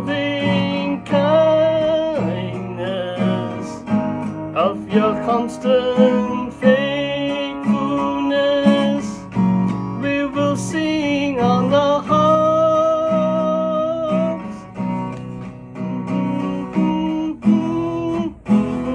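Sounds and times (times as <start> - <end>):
man singing: 0.0 - 14.8, 15.9 - 18.9
acoustic guitar: 0.0 - 18.9.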